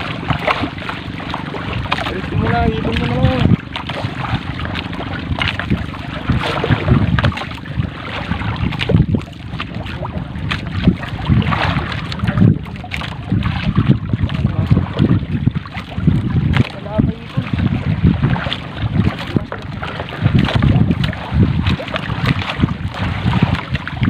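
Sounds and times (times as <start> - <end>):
water slapping boat hull: 0.0 - 24.0
wet net hauled over boat: 0.0 - 24.0
wind buffeting microphone: 0.0 - 24.0.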